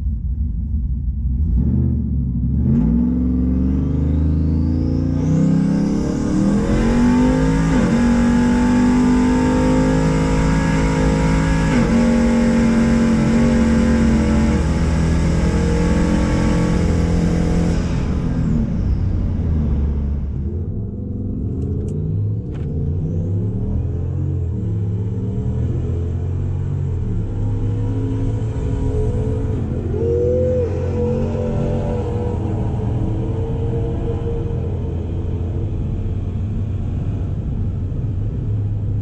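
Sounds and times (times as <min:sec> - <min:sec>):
vehicle engine accelerating: 0:00.0 - 0:39.0.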